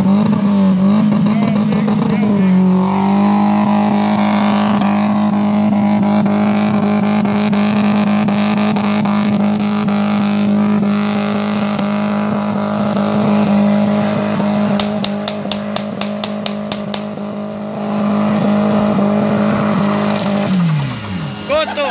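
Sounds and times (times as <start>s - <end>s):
car engine at high revs: 0.0s - 21.9s.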